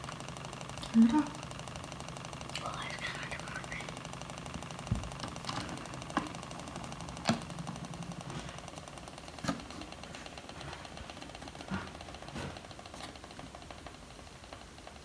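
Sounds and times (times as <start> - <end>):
small electric motor running: 0.0 - 15.0.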